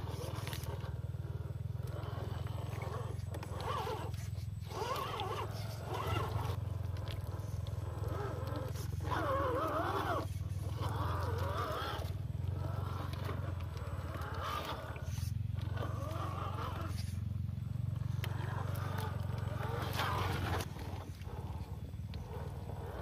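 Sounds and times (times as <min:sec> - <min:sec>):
steady low hum: 0:00.0 - 0:23.0
toy car electric motor whining: 0:00.0 - 0:23.0
tyres churning through mud: 0:00.0 - 0:23.0.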